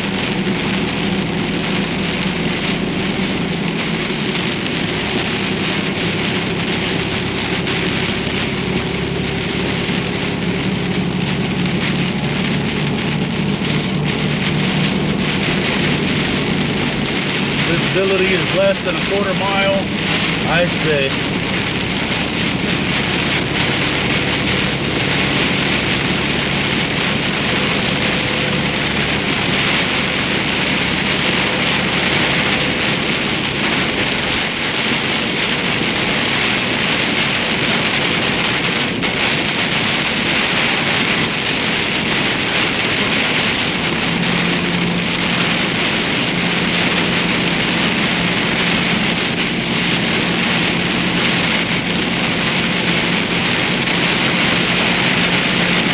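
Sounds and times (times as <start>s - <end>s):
heavy rain on a vehicle: 0.0s - 55.9s
vehicle engine and road noise: 0.0s - 55.9s.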